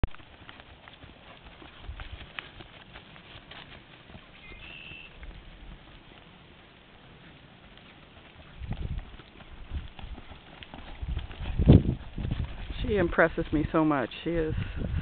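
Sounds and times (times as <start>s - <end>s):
horse hoofbeats on grass: 0.0s - 15.0s.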